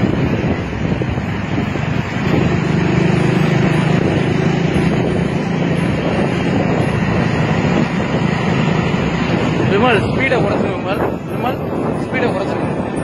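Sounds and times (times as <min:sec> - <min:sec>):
motorcycle engines running: 0:00.0 - 0:13.0
road and wind noise: 0:00.0 - 0:13.0.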